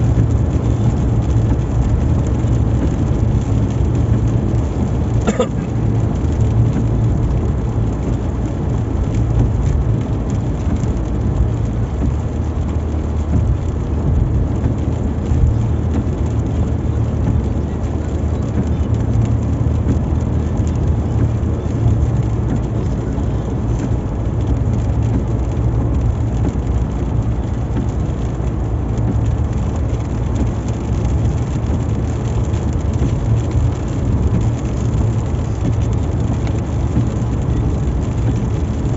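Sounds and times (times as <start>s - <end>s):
car engine and tyre noise: 0.0s - 38.9s
rain on a car: 0.0s - 38.9s.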